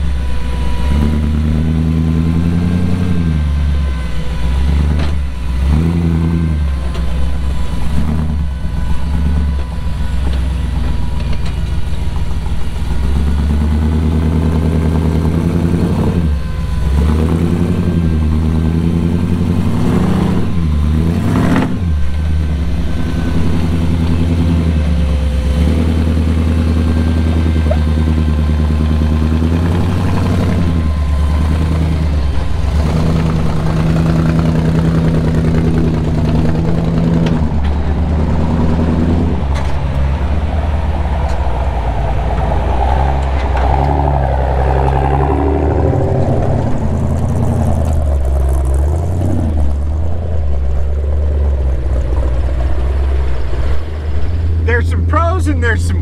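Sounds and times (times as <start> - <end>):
truck engine revving at low speed: 0.0 - 56.0.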